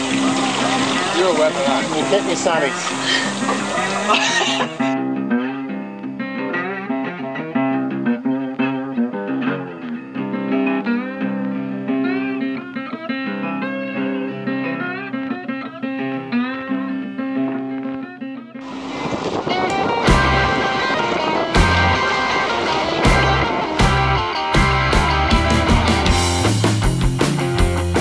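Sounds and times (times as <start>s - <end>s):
plucked guitar music: 0.0s - 28.0s.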